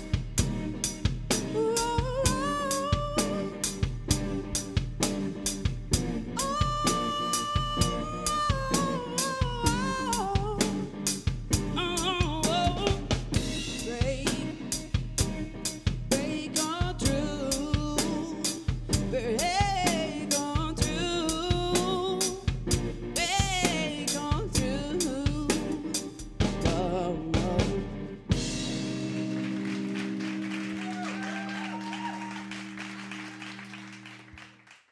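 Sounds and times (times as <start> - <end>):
drum kit beat: 0.0 - 31.0
live band music: 0.0 - 34.0.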